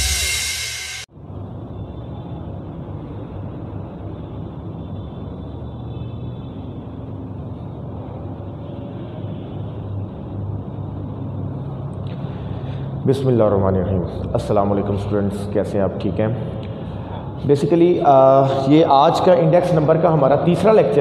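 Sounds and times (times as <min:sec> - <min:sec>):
faint hum: 0:01.1 - 0:21.0.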